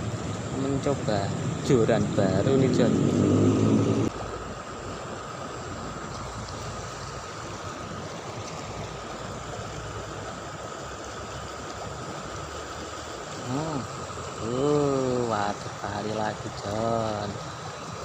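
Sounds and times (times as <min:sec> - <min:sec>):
flowing river water: 0:00.0 - 0:18.0.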